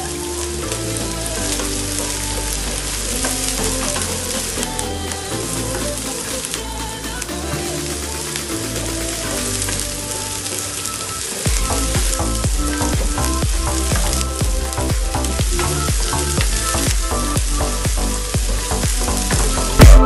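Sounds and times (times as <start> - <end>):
background music with beat: 0.0 - 20.0.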